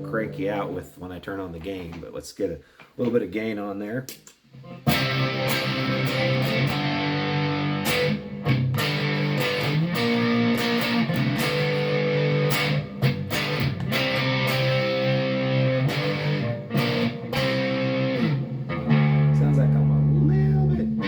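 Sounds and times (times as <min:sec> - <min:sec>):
electric guitar strummed chords: 0:00.0 - 0:00.8, 0:04.6 - 0:21.0.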